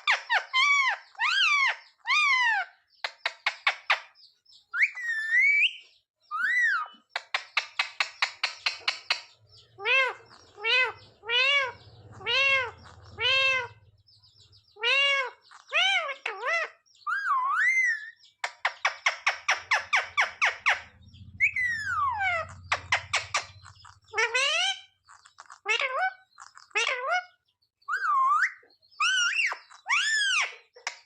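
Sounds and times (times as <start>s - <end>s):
parakeet chattering and squawking: 0.0s - 31.0s.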